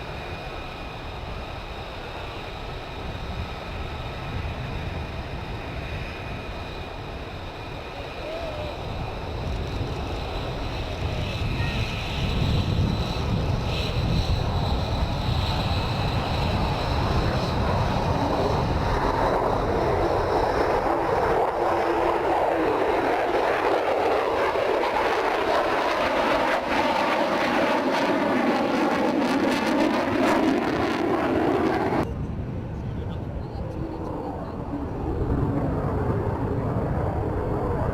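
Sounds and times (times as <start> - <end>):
jet engine roar: 0.0 - 37.9.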